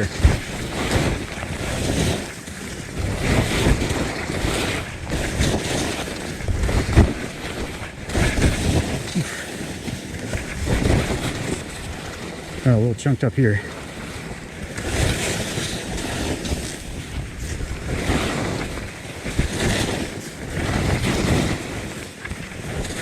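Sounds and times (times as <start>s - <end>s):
skis scraping through snow: 0.0s - 23.0s
wind on microphone: 0.0s - 23.0s.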